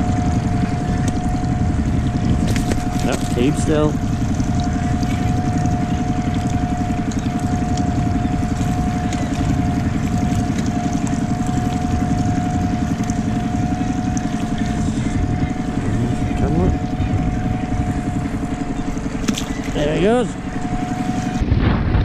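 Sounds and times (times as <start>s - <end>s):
motor whine: 0.0s - 22.0s
outboard motor chugging: 0.0s - 22.0s.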